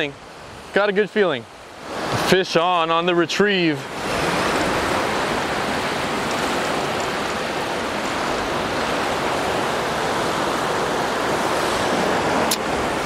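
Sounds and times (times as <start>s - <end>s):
ocean surf washing around rocks: 0.0s - 13.0s.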